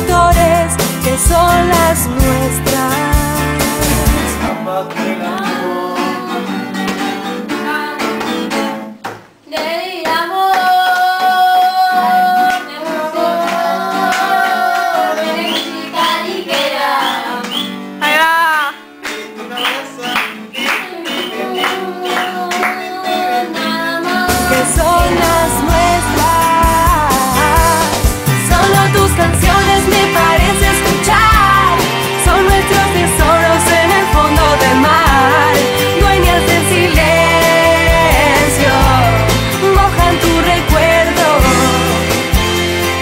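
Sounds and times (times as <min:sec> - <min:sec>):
pop song with singer: 0:00.0 - 0:08.7, 0:09.5 - 0:43.0.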